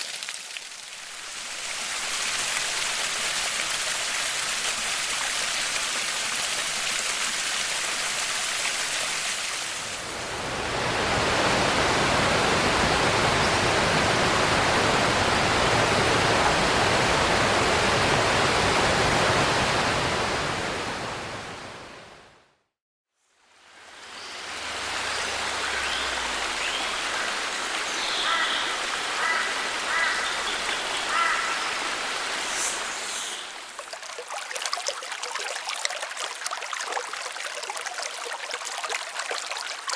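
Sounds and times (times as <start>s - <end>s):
rushing creek and waterfall: 0.0s - 22.2s, 23.5s - 39.9s.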